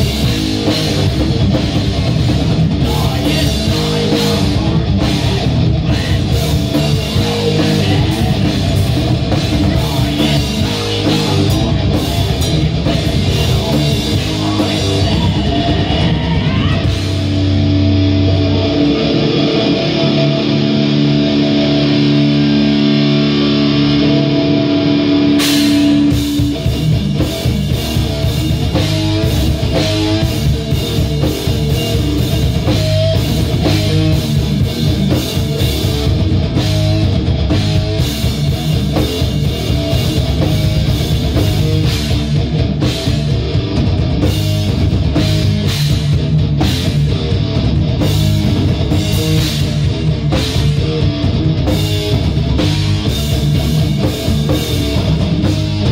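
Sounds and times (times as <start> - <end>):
fast drumming with cymbals: 0.0 - 17.5, 25.4 - 55.9
bass guitar: 0.0 - 55.9
distorted electric guitar: 0.0 - 55.9.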